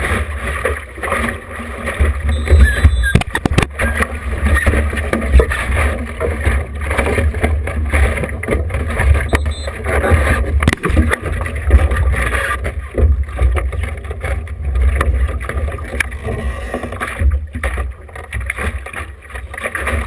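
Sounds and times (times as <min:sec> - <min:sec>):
water splashing along boat hull: 0:00.0 - 0:20.0.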